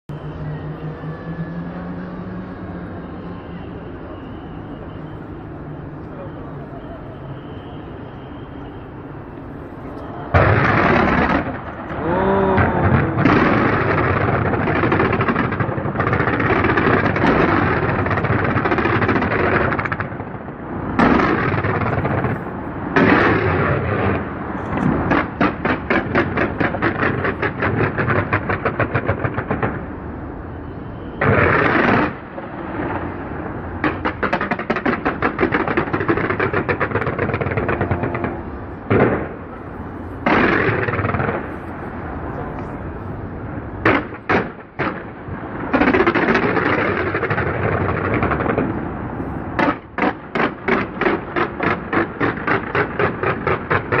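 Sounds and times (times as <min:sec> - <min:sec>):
fireworks crackling bangs: 0:03.4 - 0:54.0.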